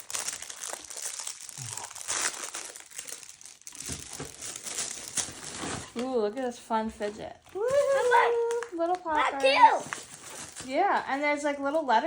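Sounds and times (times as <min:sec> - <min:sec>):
plastic packaging crinkling: 0:00.0 - 0:06.2, 0:07.4 - 0:11.7.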